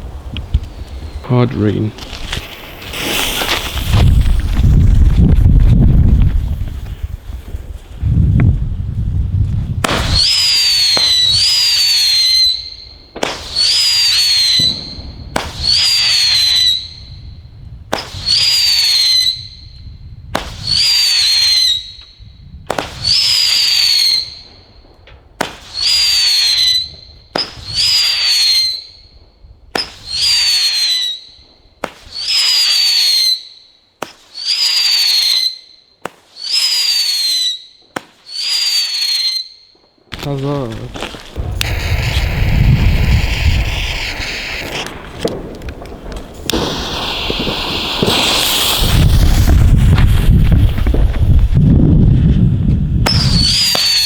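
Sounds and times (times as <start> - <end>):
firework whistling: 0.0 - 8.2, 9.7 - 54.0
firework launch pops: 1.9 - 8.6, 9.7 - 19.6, 20.2 - 28.8, 29.7 - 33.0, 34.0 - 35.4, 36.0 - 36.7, 37.8 - 38.6, 40.1 - 54.0.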